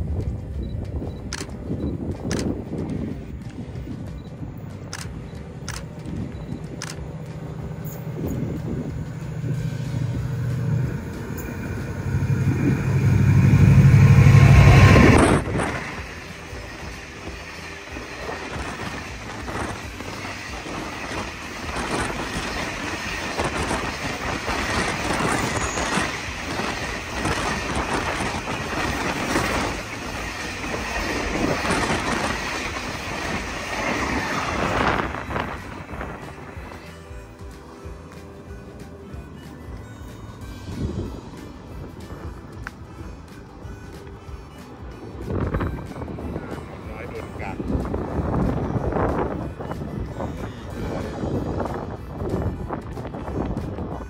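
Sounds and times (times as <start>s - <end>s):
train clattering on rails: 0.0s - 38.5s, 39.2s - 54.0s
diesel railcar engines humming: 0.0s - 54.0s.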